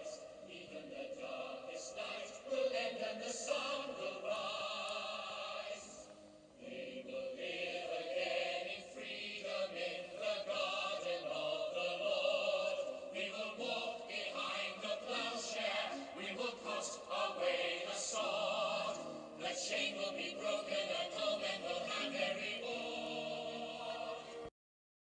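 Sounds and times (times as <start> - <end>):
choir singing held notes: 0.0 - 24.5.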